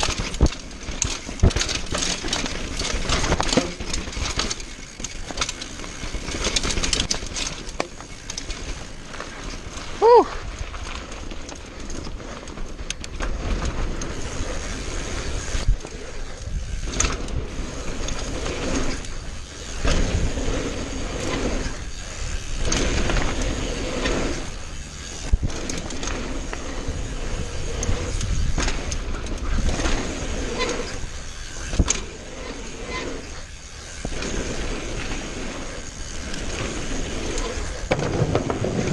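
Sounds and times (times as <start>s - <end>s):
bike rattling and knocking: 0.0s - 38.9s
tyres rolling over dirt: 0.0s - 38.9s.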